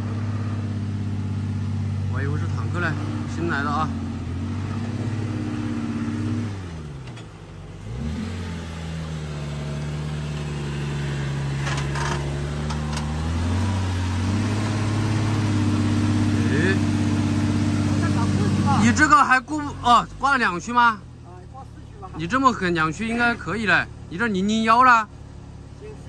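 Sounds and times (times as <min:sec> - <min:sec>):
off-road vehicle engine climbing: 0:00.0 - 0:26.0.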